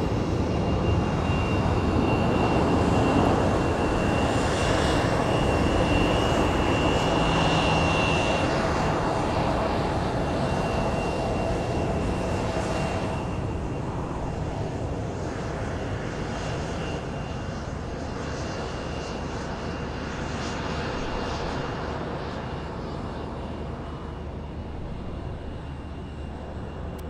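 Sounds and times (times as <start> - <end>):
airliner engines running: 0.0 - 27.0.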